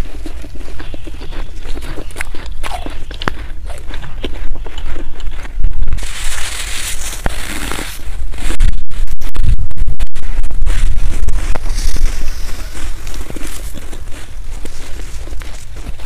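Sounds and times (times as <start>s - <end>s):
snow crunching being chewed: 0.0s - 16.0s.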